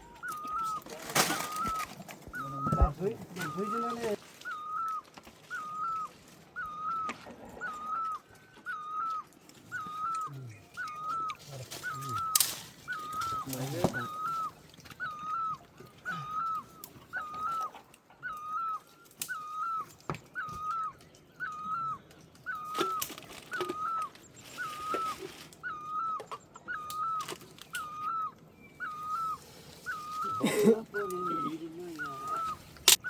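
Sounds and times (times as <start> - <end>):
bird calling: 0.0 - 33.0.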